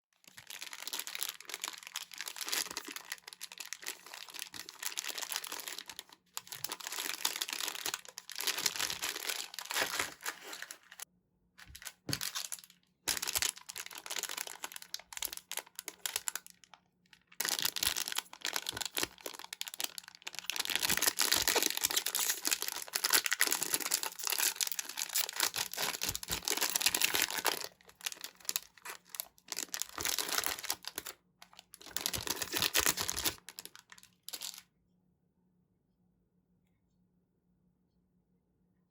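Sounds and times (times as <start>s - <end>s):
card packaging crinkling and tearing: 0.2s - 11.0s, 11.6s - 34.6s.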